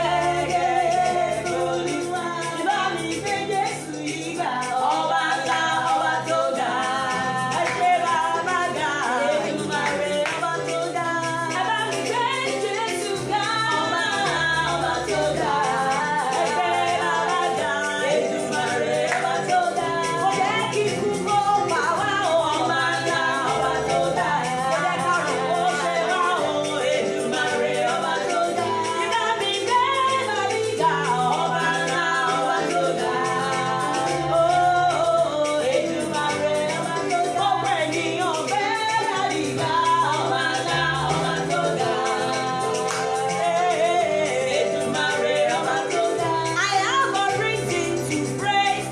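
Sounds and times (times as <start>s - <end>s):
instrumental backing with bass: 0.0s - 48.9s
steady percussion beat: 0.0s - 48.9s
voices singing gospel: 0.0s - 48.9s.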